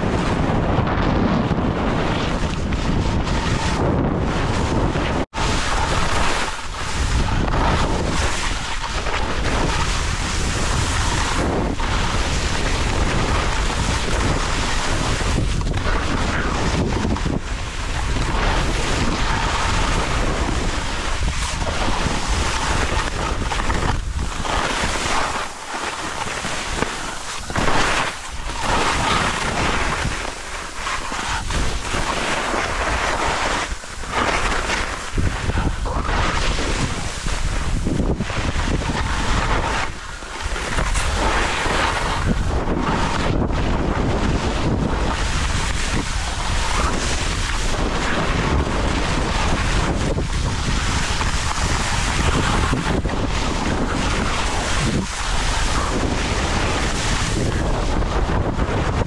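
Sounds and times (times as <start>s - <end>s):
wind buffeting microphone: 0.0s - 59.0s
skis hissing on snow: 5.4s - 58.4s.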